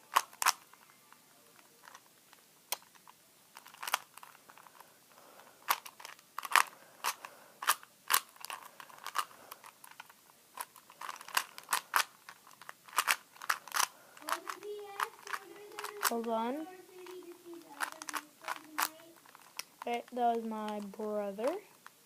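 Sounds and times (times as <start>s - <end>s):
plastic puzzle cube clicking: 0.1s - 0.8s, 1.6s - 4.8s, 5.6s - 16.4s, 17.0s - 22.0s.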